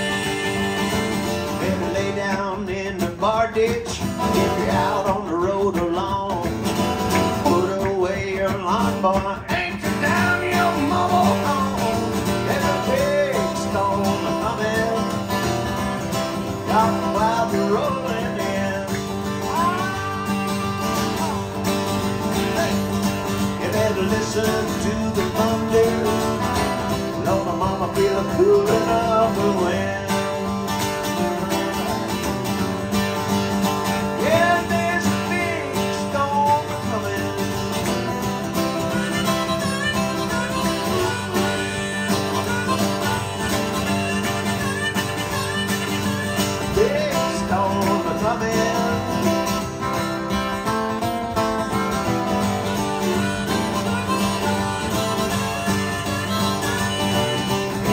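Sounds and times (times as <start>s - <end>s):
harmonica melody with bending notes: 0.0s - 2.2s, 9.6s - 57.9s
acoustic guitar strumming: 0.0s - 57.9s.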